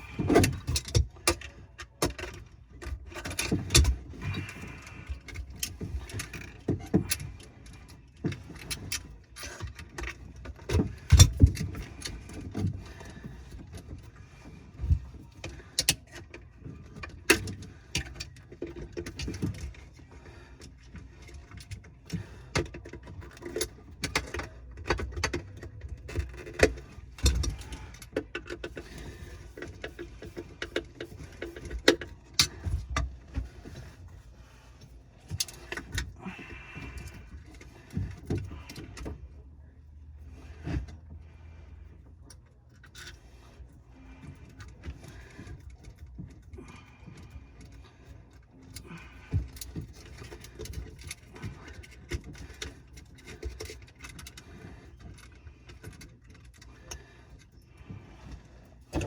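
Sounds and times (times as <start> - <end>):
low steady hum: 0.0 - 59.0
tools and pipe parts clinking: 0.0 - 59.0.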